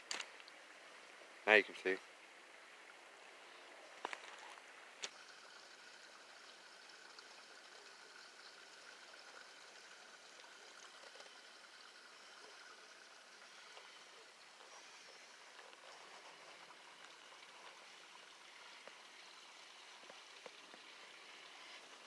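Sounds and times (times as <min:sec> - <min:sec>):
water trickling through a ditch: 0:00.0 - 0:22.0.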